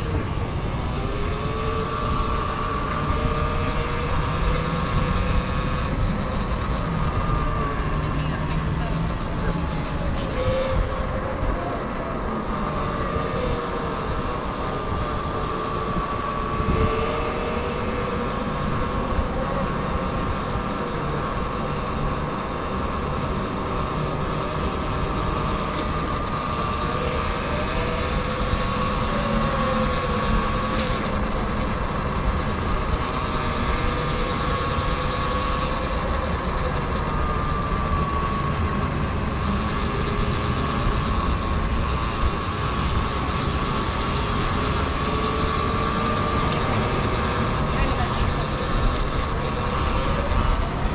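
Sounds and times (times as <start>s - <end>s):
electric motor whine: 0.0s - 50.9s.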